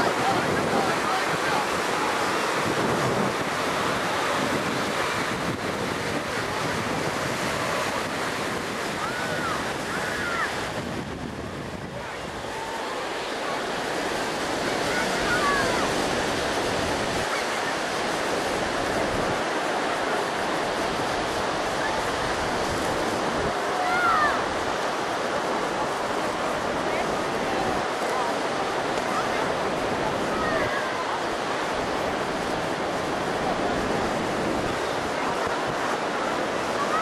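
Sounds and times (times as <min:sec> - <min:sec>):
ocean surf washing onto beach: 0:00.0 - 0:37.0
wind buffeting microphone: 0:00.0 - 0:37.0.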